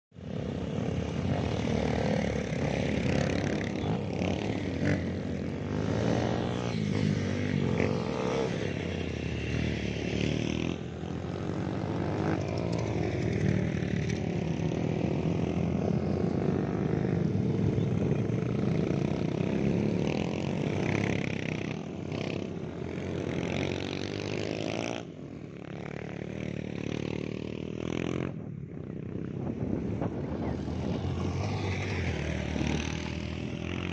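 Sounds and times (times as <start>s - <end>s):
dirt bikes revving past: 0.2s - 33.9s.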